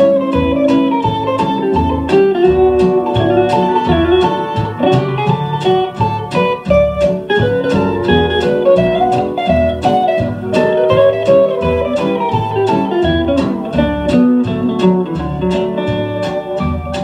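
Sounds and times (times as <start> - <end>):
steel guitar lead: 0.0 - 17.0
steady beat and bass: 1.0 - 17.0.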